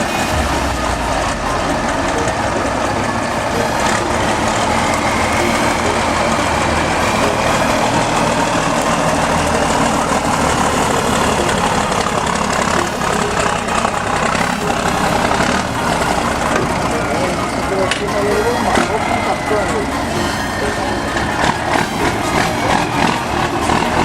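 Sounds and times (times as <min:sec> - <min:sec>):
heavy truck engine running: 0:00.0 - 0:24.0.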